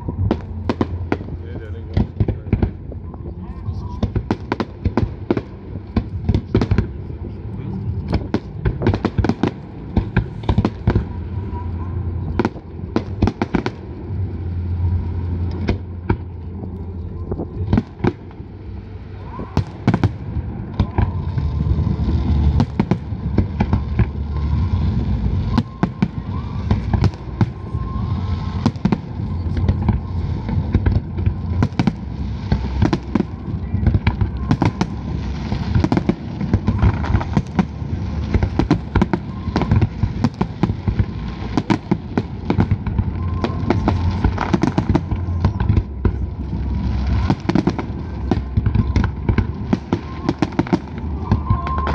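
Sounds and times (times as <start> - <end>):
constant low rumble: 0.0 - 51.9.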